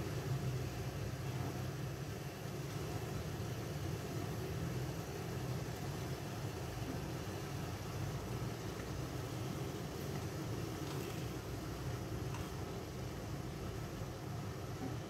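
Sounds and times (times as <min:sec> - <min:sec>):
range hood fan humming: 0:00.0 - 0:15.0.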